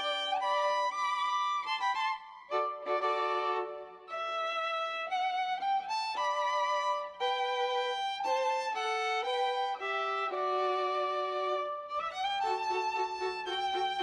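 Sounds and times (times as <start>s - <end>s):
violin playing slow melody: 0.0s - 14.0s.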